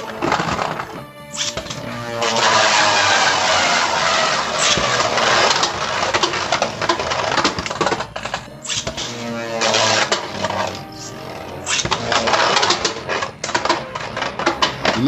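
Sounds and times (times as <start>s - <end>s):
spinning tops whirring and clicking: 0.0s - 15.0s.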